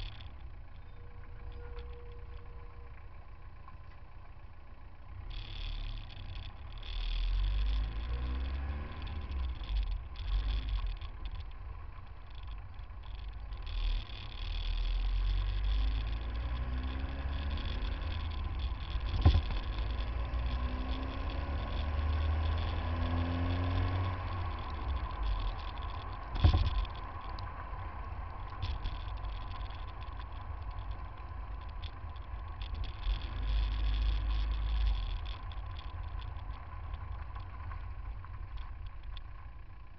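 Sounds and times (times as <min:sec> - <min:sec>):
car engines in traffic: 0:00.0 - 0:39.9.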